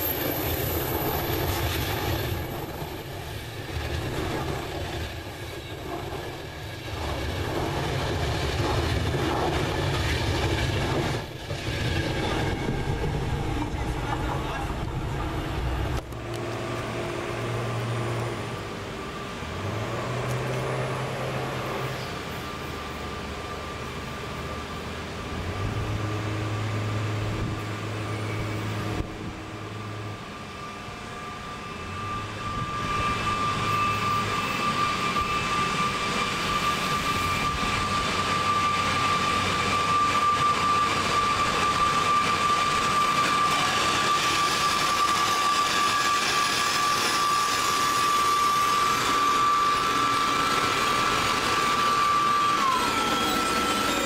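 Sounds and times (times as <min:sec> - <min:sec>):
steady high-pitched whine: 0:00.0 - 0:54.0
train wheels rumbling on rails: 0:00.0 - 0:54.0.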